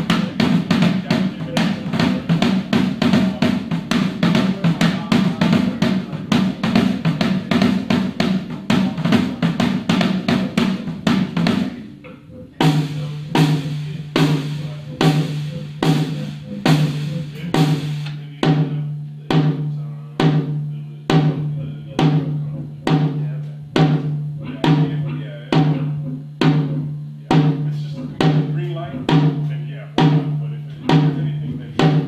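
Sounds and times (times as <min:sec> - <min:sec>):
band music with drum kit: 0:00.0 - 0:32.0.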